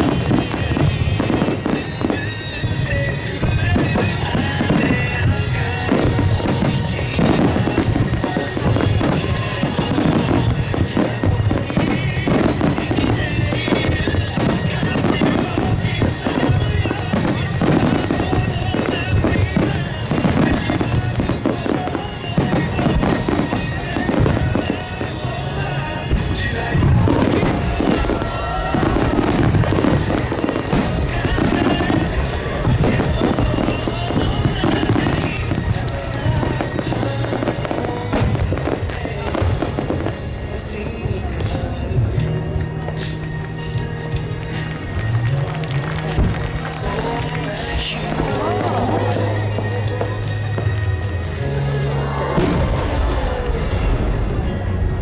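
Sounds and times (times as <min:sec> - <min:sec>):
fireworks bursting and crackling: 0:00.0 - 0:55.0
pop song over loudspeakers: 0:00.0 - 0:55.0.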